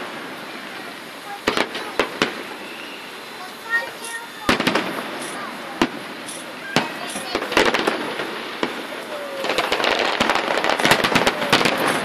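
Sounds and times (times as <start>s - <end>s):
crackling firework reports: 0.0s - 12.0s
fireworks booming: 0.0s - 12.0s.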